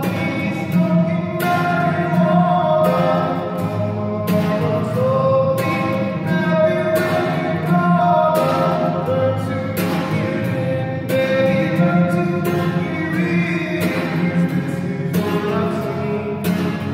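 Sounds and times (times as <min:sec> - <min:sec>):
acoustic guitar strumming: 0:00.0 - 0:16.9
man singing: 0:00.0 - 0:16.9.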